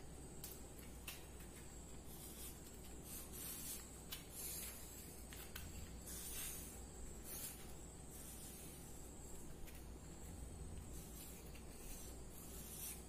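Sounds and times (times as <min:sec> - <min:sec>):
pencil scratching on paper: 0:02.0 - 0:13.0.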